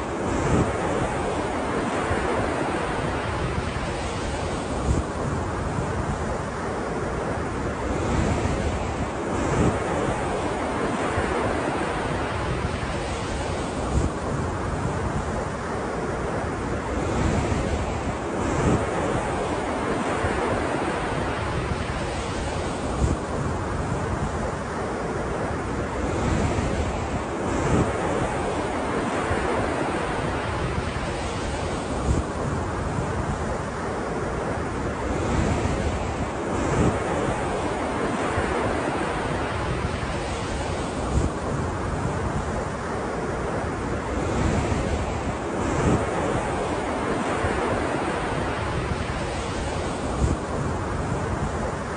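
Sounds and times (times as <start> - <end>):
ocean waves washing in: 0.0 - 51.9
wind rumbling on microphone: 0.0 - 51.9.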